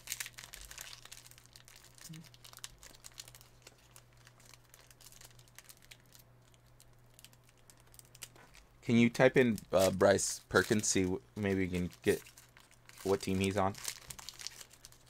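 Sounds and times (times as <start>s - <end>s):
foil wrappers crinkling: 0.0s - 15.0s
low electrical hum: 0.0s - 15.0s.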